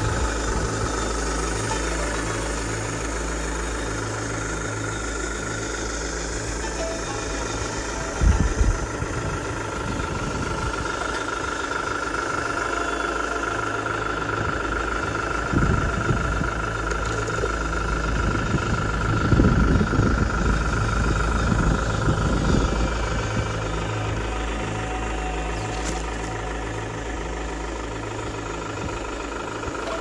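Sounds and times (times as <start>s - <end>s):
loud rumble: 0.0s - 29.8s
rc crawler driving: 0.0s - 30.0s
thin motor whine: 0.0s - 30.0s.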